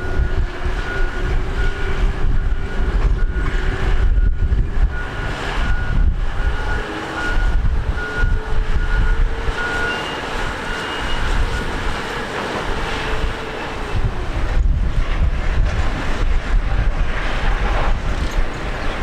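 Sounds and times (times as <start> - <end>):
jet engines rushing: 0.0 - 19.0
wind on microphone: 0.0 - 19.0.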